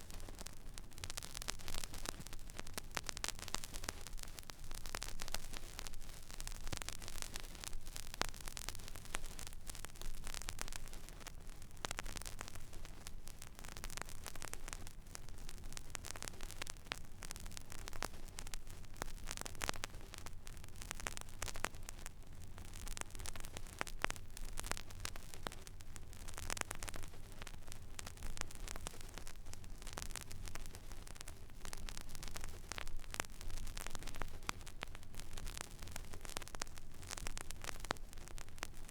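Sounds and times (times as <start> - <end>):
vinyl surface hiss and crackles: 0.0 - 38.9.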